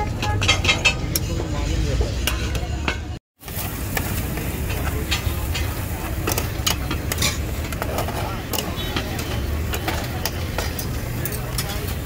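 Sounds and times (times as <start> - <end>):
low rumble of street noise: 0.0 - 12.0
metal spatula scraping a pan: 0.0 - 12.0.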